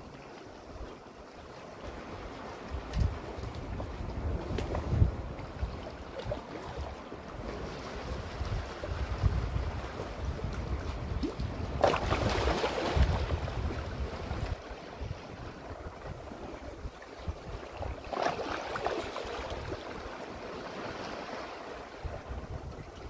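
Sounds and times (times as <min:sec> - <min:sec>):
wind rumble on microphone: 0:00.0 - 0:23.0
waves breaking over rocks: 0:01.8 - 0:23.0.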